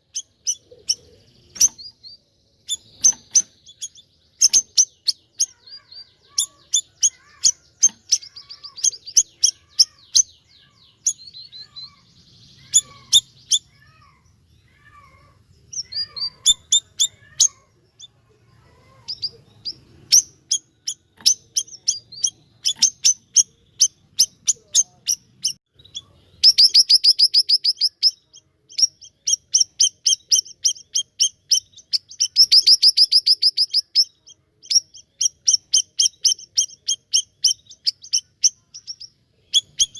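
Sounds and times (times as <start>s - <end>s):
bird chipping: 0.0s - 39.9s.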